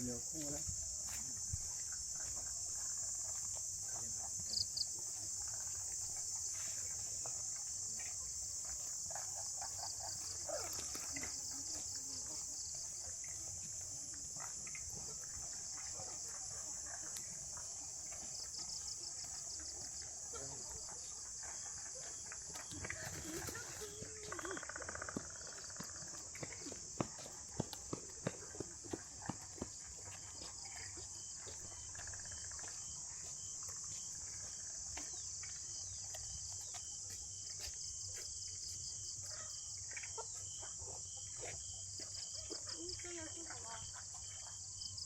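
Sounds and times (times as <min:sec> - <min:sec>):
fast pulsing insect calls: 0:00.0 - 0:36.7.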